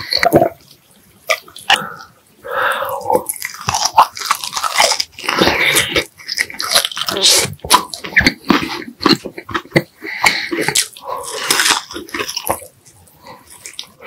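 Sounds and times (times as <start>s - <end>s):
person biting and chewing food: 0.0s - 14.0s.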